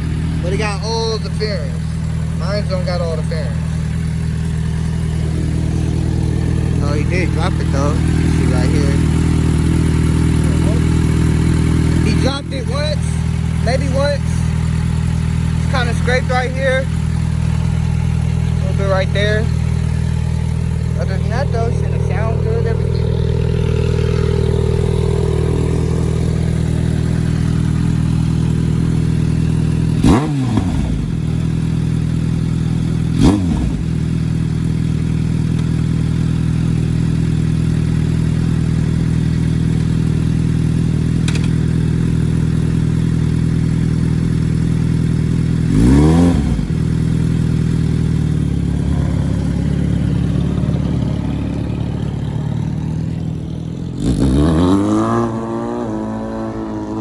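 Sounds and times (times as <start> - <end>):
motorcycle engine idling: 0.0 - 56.9
motorcycle throttle revs: 0.0 - 57.0.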